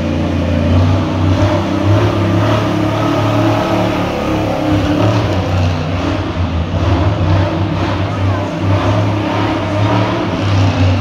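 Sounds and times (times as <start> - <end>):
truck engine revving past: 0.0 - 11.0.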